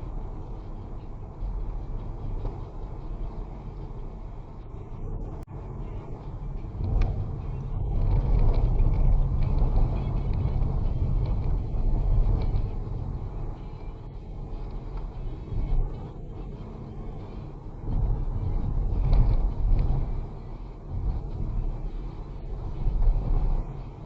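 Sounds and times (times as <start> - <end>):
vehicle engine rumbling: 0.0 - 24.0
wind rushing over microphone: 0.0 - 24.0.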